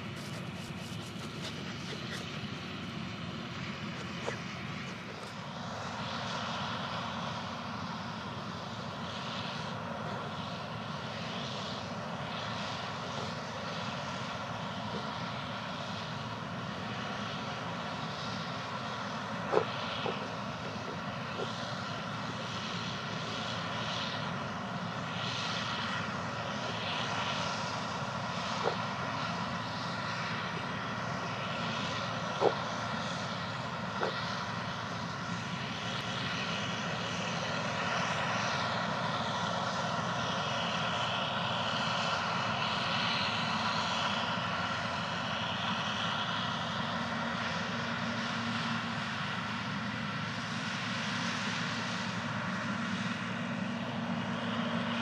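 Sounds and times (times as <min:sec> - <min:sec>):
farm machine engine droning: 0:00.0 - 0:55.0.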